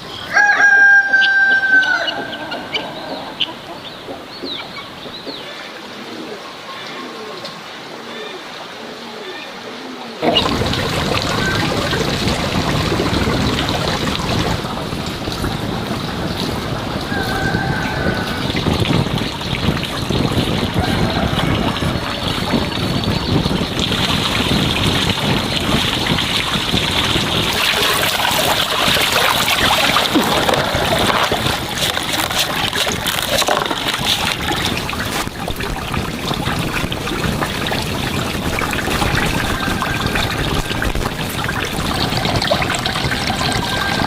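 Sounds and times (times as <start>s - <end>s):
water trickling and splashing: 0.0s - 8.0s, 10.2s - 44.0s.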